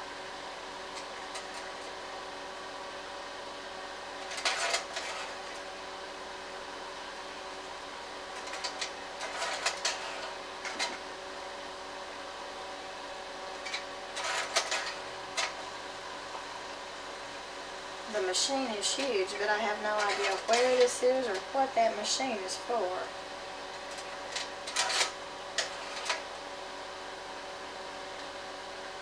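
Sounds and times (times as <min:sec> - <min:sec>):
projector fan and motor hum: 0:00.0 - 0:29.0.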